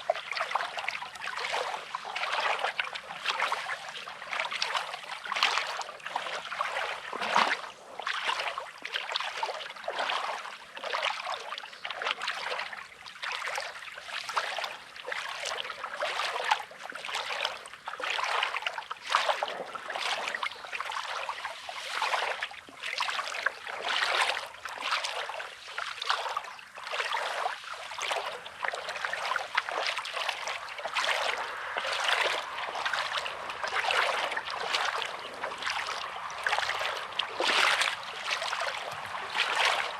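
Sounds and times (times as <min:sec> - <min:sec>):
small waves lapping on stones: 0:00.0 - 0:12.8, 0:13.6 - 0:39.9.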